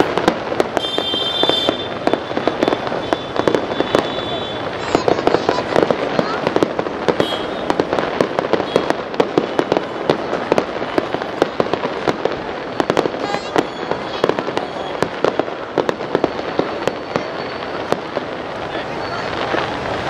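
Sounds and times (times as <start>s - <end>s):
fireworks bangs and pops: 0.0s - 20.0s
fireworks crackling: 0.0s - 20.0s.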